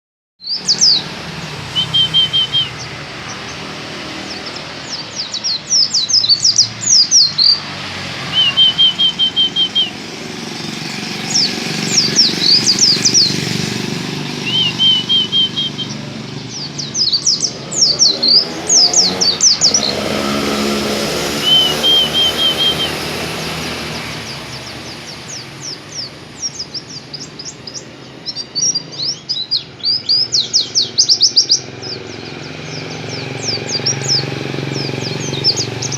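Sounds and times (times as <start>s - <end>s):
bird singing high falling notes: 0.4s - 35.9s
low bird trills: 0.4s - 35.9s.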